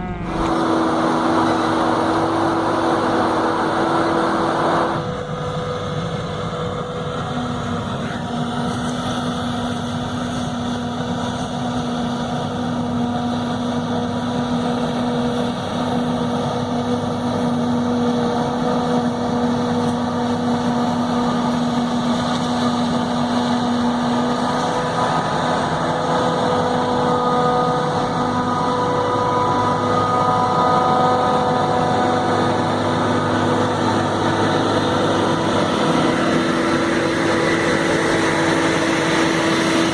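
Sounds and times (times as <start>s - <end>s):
diesel farm machinery running: 0.0s - 39.9s
steady machine whine: 0.0s - 39.9s.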